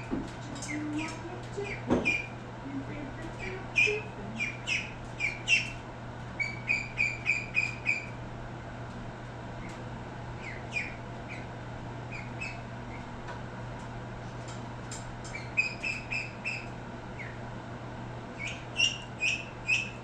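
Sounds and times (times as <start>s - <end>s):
birds peeping: 0.0s - 8.3s, 9.5s - 13.2s, 15.2s - 17.5s, 18.2s - 20.0s
steady low hum: 0.0s - 20.0s.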